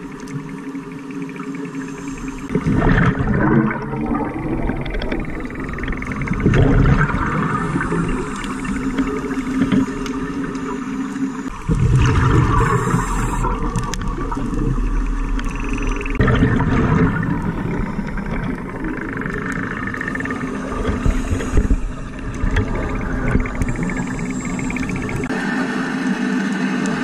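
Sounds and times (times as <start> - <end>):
regulator bubbles gurgling underwater: 0.0 - 27.0.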